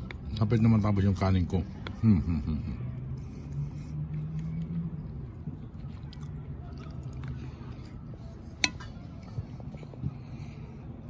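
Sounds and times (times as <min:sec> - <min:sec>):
faint eating noises: 0:00.0 - 0:11.0.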